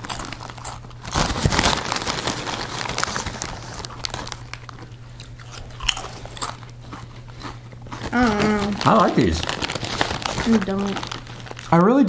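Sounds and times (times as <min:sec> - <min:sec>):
foil crisp packet crinkling: 0:00.0 - 0:12.0.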